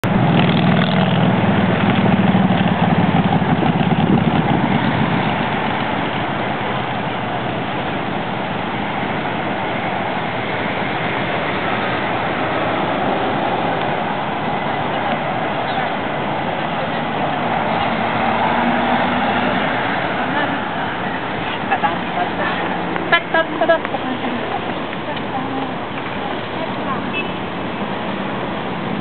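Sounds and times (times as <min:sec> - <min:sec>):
traffic hum: 0:00.0 - 0:29.0
vehicle engine: 0:00.0 - 0:29.0.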